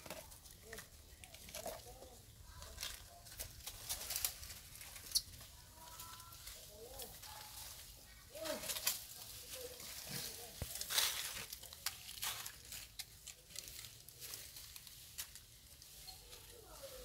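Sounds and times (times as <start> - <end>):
dry leaves and plastic rustling: 0.0 - 17.0.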